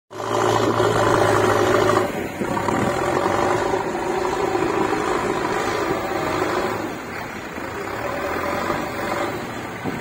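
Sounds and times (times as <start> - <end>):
diesel engine working hard: 0.1 - 10.0.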